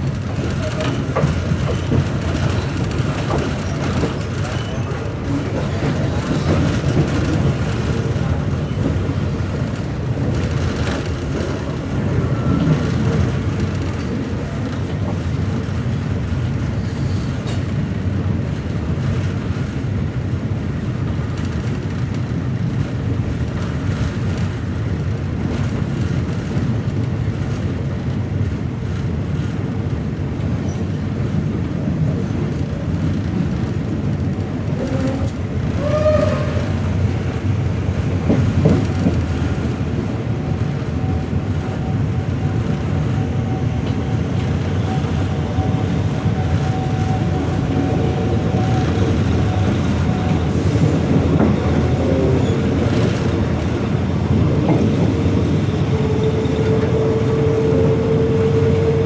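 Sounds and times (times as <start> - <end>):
train rumble and rushing wind: 0.0 - 59.0.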